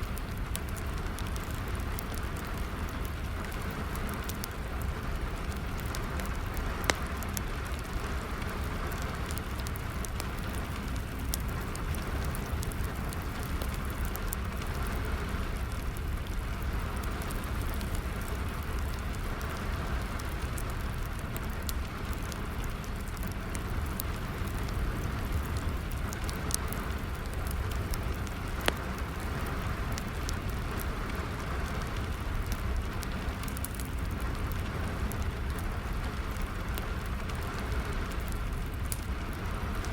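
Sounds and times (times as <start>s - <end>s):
steady rainfall: 0.0s - 39.9s
wood fire crackling and popping: 0.0s - 39.9s.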